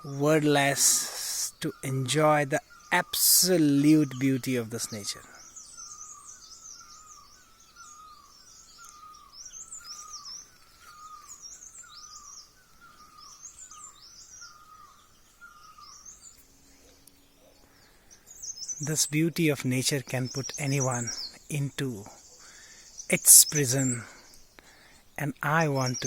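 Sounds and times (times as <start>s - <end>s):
bird twittering: 0.0s - 26.0s.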